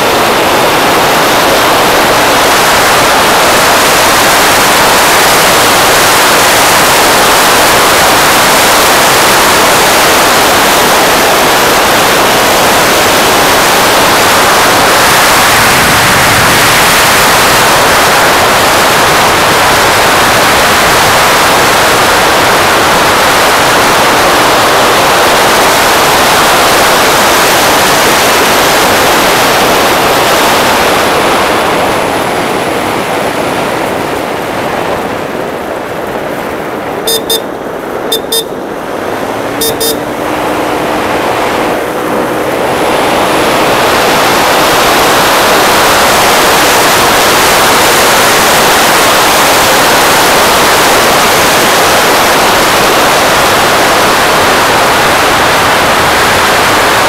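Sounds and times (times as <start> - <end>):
road and engine noise: 0.0 - 57.0
wind buffeting microphone: 0.0 - 57.0.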